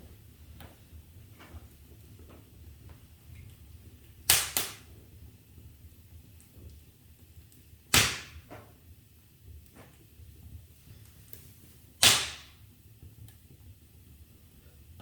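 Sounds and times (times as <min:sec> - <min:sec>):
loud popping of fire: 0:00.0 - 0:14.3
wood fire crackling: 0:00.0 - 0:15.0.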